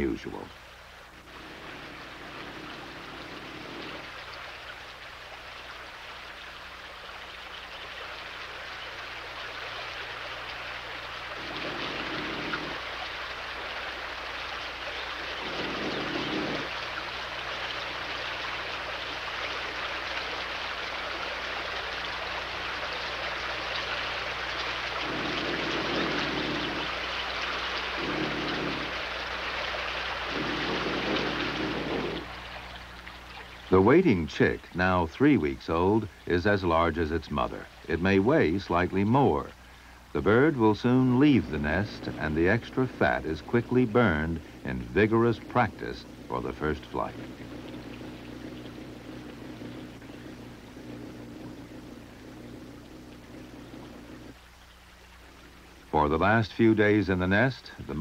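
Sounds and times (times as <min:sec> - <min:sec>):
stream water over rocks: 0:00.0 - 0:58.0.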